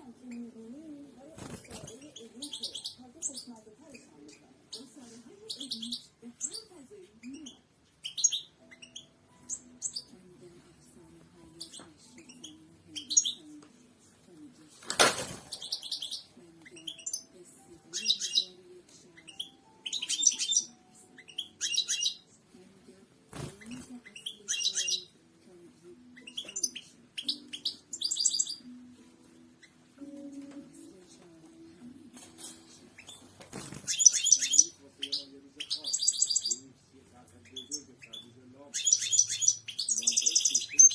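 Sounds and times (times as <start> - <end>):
goldfinch singing: 1.4 - 10.2, 11.5 - 13.6, 15.5 - 18.6, 19.2 - 22.4, 23.2 - 25.3, 26.0 - 31.0, 31.6 - 36.7, 37.4 - 40.9.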